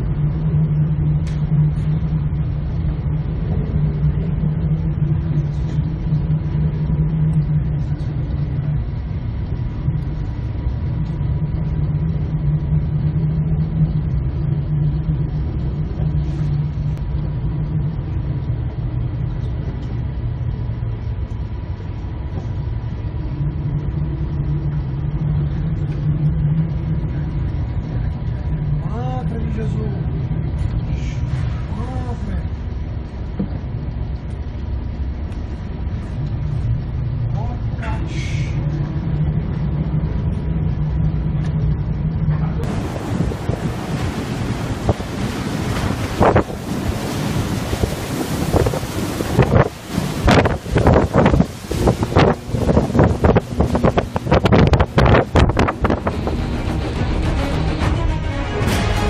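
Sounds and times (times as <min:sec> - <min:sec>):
low rumble of ship engine: 0:00.0 - 0:59.0.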